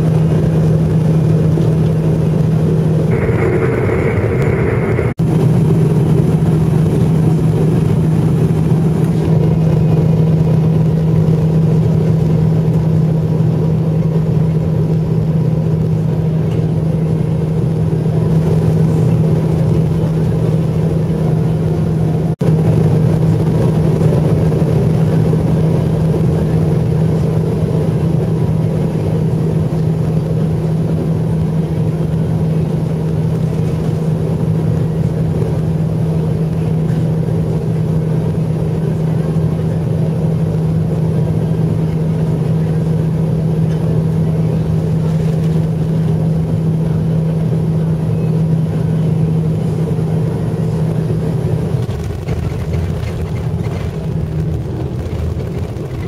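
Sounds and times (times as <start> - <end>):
constant low hum: 0.0 - 56.0
jet engine and airflow rush: 0.0 - 56.0.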